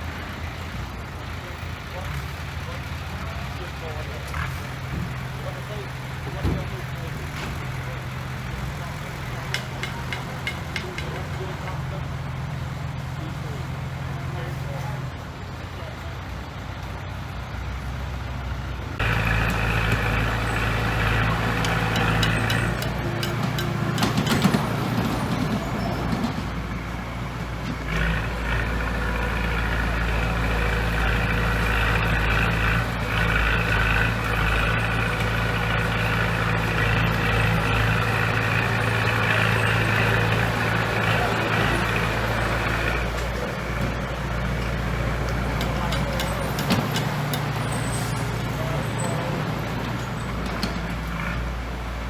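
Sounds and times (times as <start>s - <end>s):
heavy machinery diesel engine: 0.0s - 52.0s.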